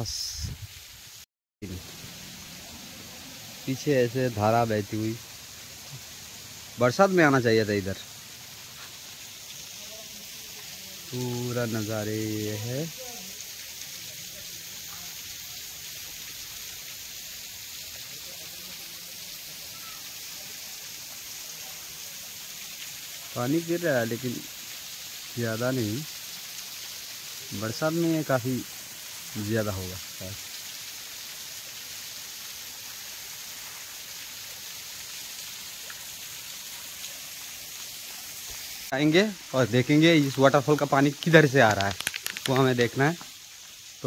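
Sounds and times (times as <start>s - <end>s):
waterfall hissing: 0.0s - 44.0s.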